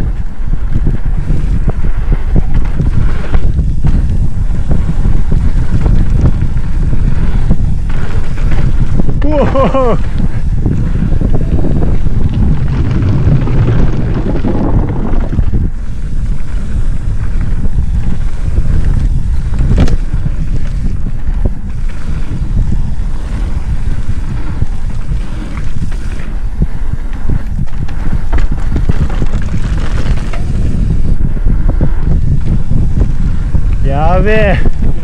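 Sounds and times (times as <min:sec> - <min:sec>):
bike knocks and rattles: 0:00.0 - 0:35.0
wind buffeting microphone: 0:00.0 - 0:35.0.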